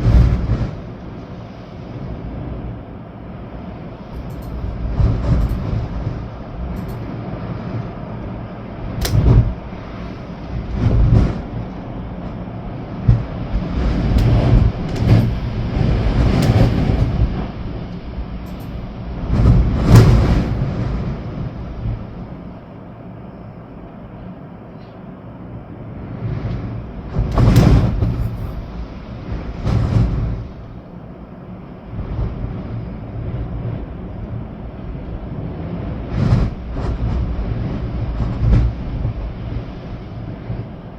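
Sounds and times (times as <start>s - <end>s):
wind gusts rumbling on microphone: 0.0s - 40.9s.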